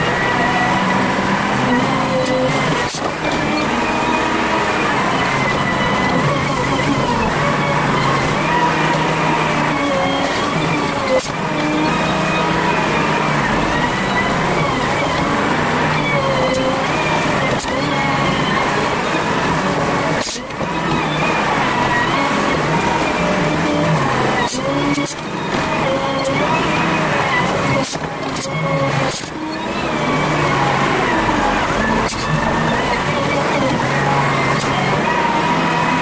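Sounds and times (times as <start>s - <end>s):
sped-up loader engine drone: 0.0s - 36.0s.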